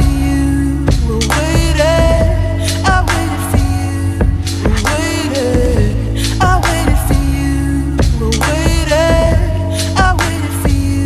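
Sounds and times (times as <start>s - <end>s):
pop song with vocals: 0.0s - 11.0s.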